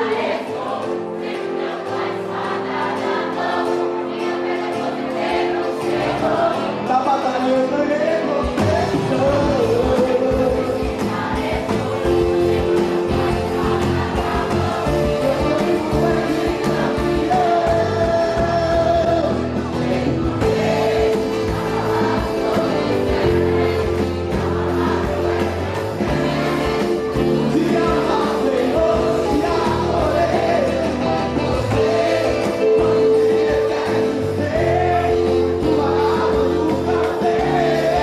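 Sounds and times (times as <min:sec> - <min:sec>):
gospel song with full band: 0:00.0 - 0:38.0.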